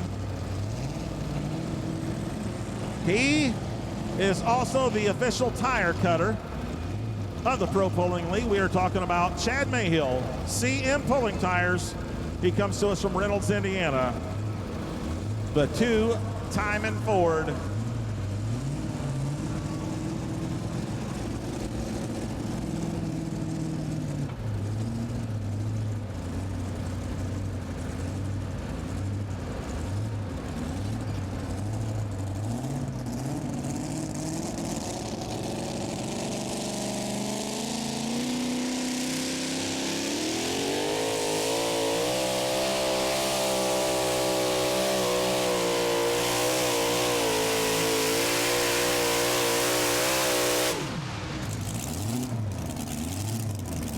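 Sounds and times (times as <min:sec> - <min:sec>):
truck engine revving: 0:00.0 - 0:53.9.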